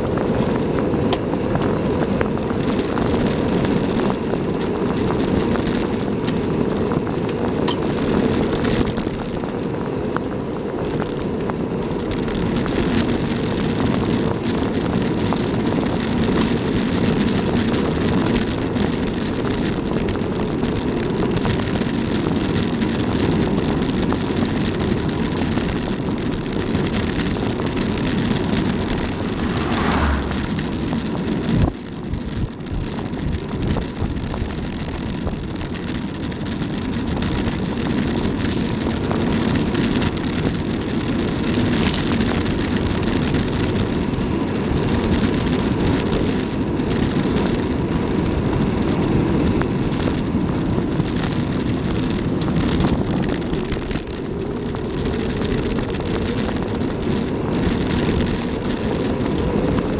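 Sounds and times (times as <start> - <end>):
bicycle tyre rumble: 0.0 - 59.9
wind buffeting microphone: 0.0 - 59.9.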